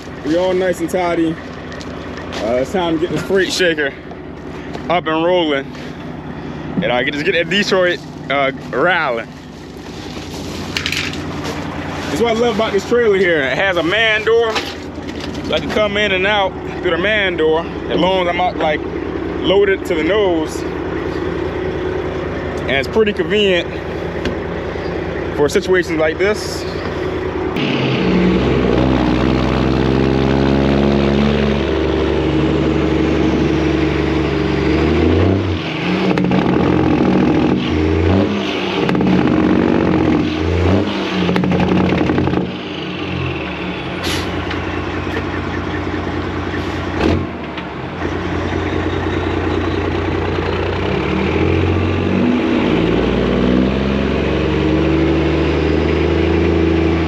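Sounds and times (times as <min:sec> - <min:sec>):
diesel truck engine accelerating: 0:00.0 - 0:57.0.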